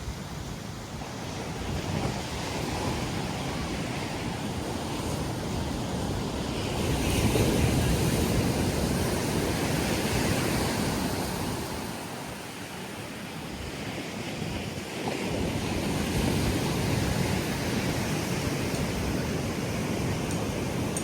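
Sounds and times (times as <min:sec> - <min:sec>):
surf washing onto sand: 0:00.0 - 0:21.0
wind rumbling on microphone: 0:00.0 - 0:21.0.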